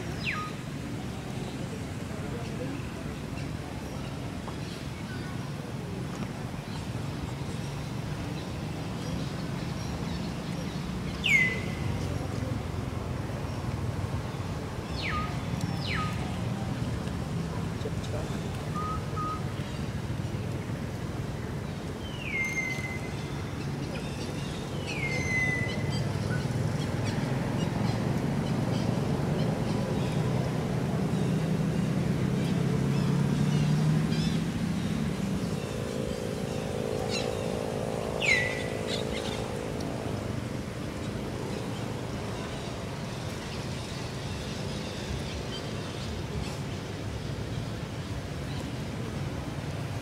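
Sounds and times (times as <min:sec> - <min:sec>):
distant engine hum: 0:00.0 - 0:50.0.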